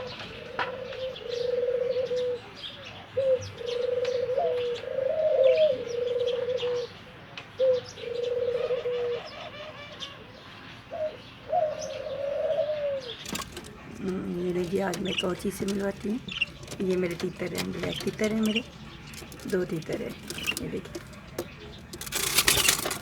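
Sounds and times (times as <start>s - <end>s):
doves cooing: 0.0s - 23.0s
small birds chirping: 0.0s - 23.0s.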